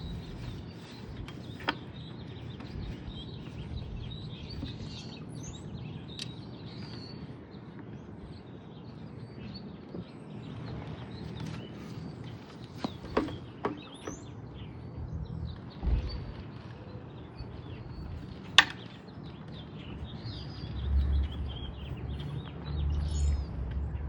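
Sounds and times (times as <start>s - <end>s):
low background rumble: 0.0s - 9.8s, 14.1s - 24.0s
small birds chirping: 0.0s - 24.0s.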